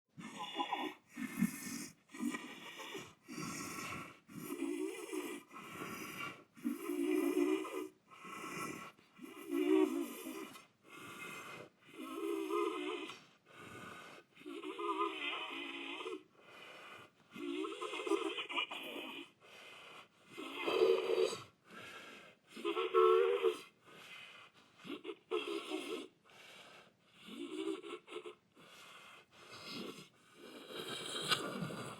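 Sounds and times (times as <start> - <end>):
monster wheezy breathing: 0.2 - 31.9.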